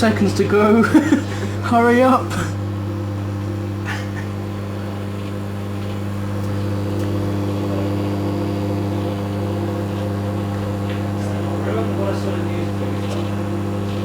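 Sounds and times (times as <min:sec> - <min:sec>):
faint arcing snaps: 0:00.0 - 0:14.0
microwave oven humming: 0:00.0 - 0:14.0.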